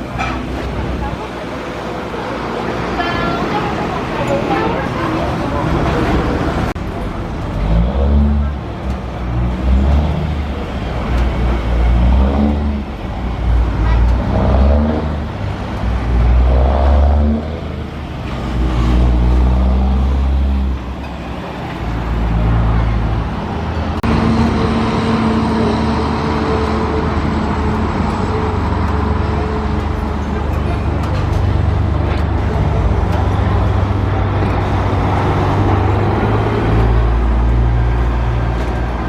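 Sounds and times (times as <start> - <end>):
steady engine drone: 0.0 - 39.0
vehicles passing: 0.0 - 39.0.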